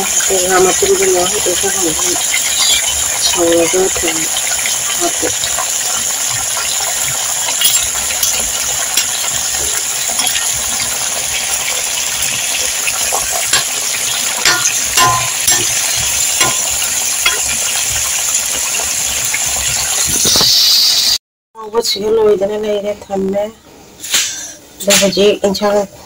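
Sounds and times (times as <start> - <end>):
food frying in hot oil: 0.0 - 21.2.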